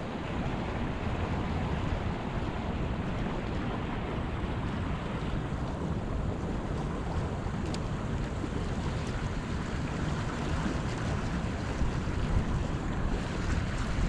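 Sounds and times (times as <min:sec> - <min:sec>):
river water rushing: 0:00.0 - 0:14.0
wind rumbling on microphone: 0:00.0 - 0:14.0.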